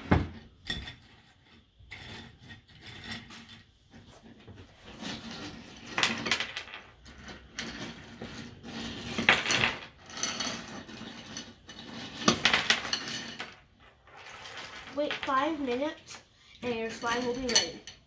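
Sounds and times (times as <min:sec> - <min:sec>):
glass clinking and scraping on ice: 0:00.6 - 0:03.6, 0:04.9 - 0:16.0, 0:16.6 - 0:18.0.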